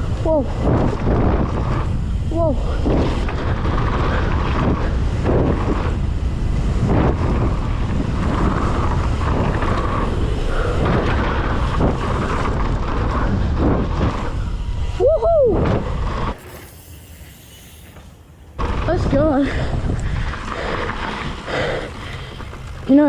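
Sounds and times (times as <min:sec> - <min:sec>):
wind buffeting microphone: 0:00.0 - 0:16.4, 0:18.5 - 0:23.0
bike tyre rumble on dirt: 0:00.0 - 0:23.0.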